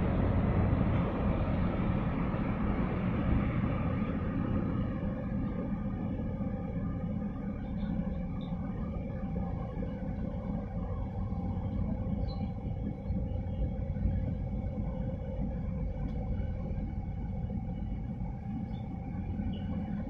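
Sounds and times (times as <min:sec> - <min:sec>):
machinery hum: 0:00.0 - 0:20.0
ship engine rumble: 0:00.0 - 0:20.0.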